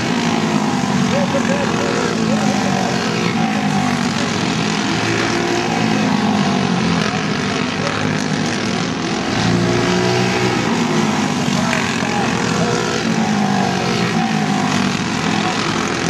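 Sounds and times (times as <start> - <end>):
go-kart engines racing: 0.0 - 16.0.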